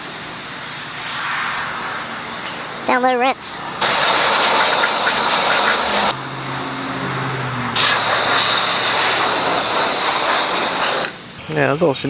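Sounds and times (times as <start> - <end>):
pressure washer spraying water: 0.0 - 11.4.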